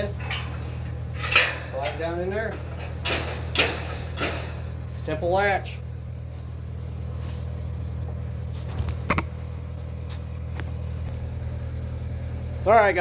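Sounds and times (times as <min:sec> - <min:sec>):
welder engine humming: 0:00.0 - 0:13.0.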